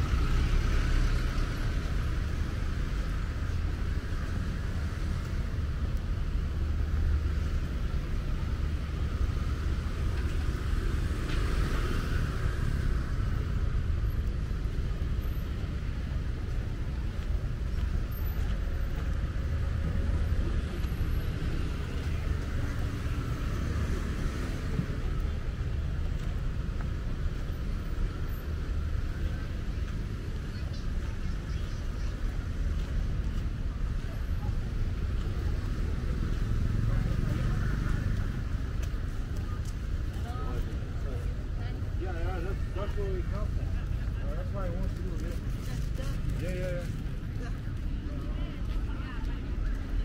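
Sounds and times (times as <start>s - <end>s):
rumble of road traffic: 0.0s - 50.0s.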